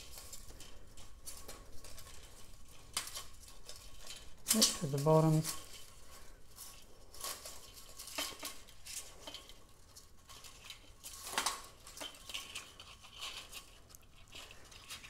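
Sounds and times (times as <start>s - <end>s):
blind slats clicking and rattling: 0.0s - 15.0s
cord rustling: 0.0s - 15.0s.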